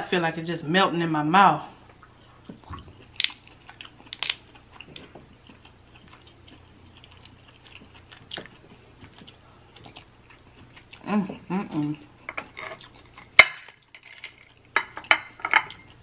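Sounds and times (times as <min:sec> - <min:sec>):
person chewing: 0:01.9 - 0:15.0.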